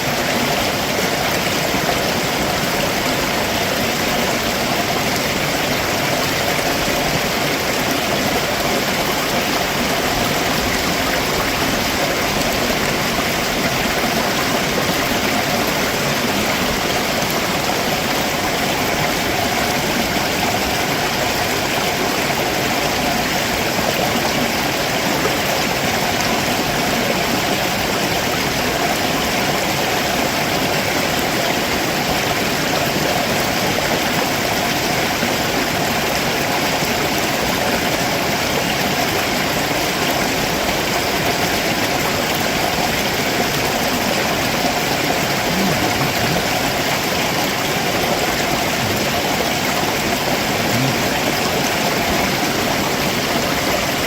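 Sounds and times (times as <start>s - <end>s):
water splashing over rocks: 0.0s - 54.0s.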